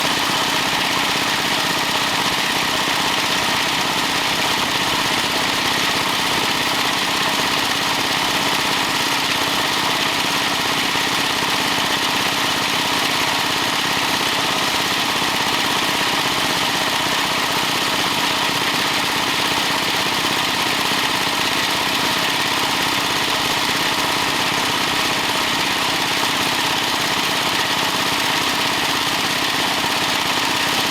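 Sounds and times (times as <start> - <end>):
stationary engine driving pump: 0.0 - 30.9.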